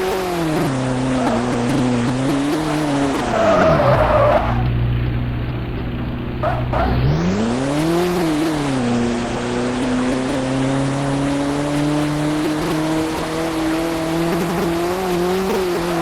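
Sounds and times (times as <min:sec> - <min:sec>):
car engine revving: 0:00.0 - 0:16.0
tyre skid: 0:00.0 - 0:16.0.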